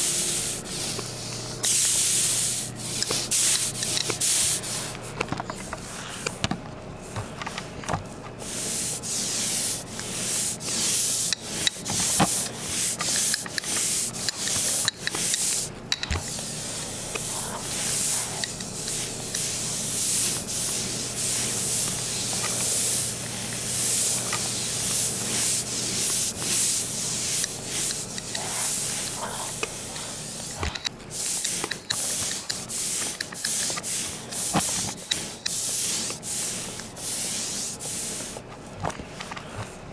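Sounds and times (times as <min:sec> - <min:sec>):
painting knife scraping paint: 0:00.4 - 0:06.4, 0:08.4 - 0:38.4.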